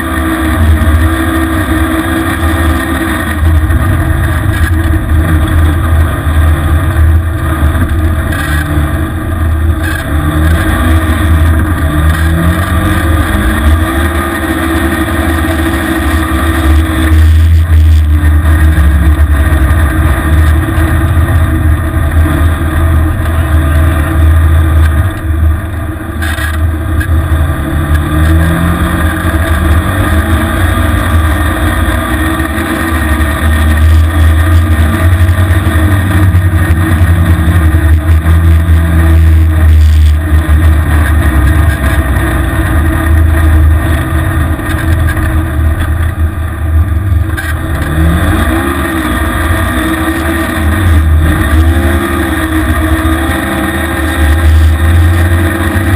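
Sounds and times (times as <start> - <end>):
vehicle engine revving: 0.0 - 55.9.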